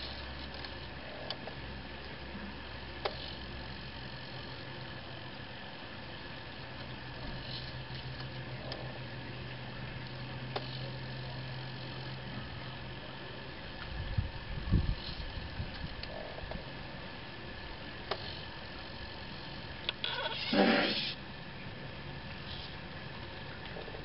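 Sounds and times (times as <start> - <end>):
robot arm motor hum: 0.0 - 5.4, 6.1 - 21.3.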